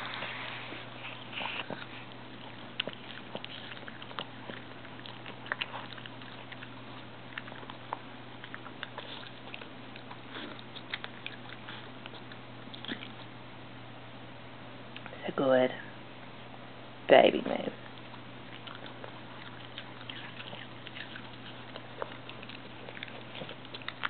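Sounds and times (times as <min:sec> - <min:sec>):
dog chewing apple crunches: 0:00.0 - 0:13.4, 0:17.4 - 0:24.0.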